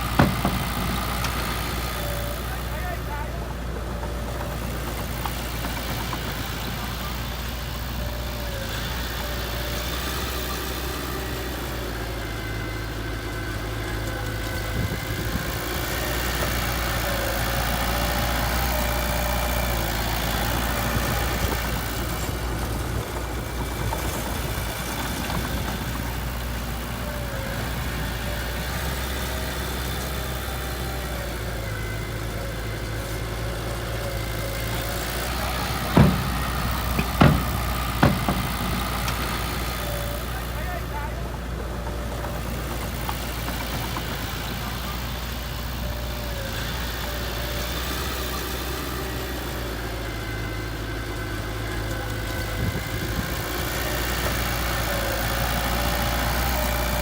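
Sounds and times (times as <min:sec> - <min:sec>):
heavy machine engine running: 0:00.0 - 0:57.0.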